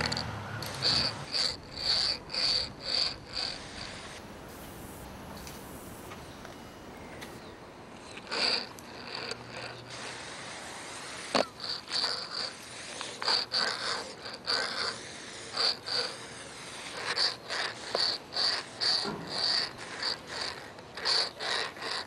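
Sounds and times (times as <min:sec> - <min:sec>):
graphite scraping on concrete: 0:00.0 - 0:06.1, 0:08.0 - 0:22.0.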